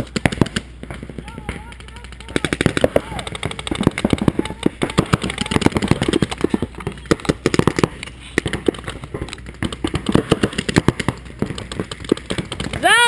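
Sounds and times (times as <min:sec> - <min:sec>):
paintball markers firing: 0:00.0 - 0:13.0.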